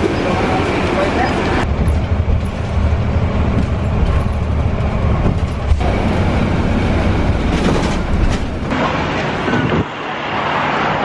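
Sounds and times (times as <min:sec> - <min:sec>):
bus engine and tyres rumbling: 0:00.0 - 0:11.0.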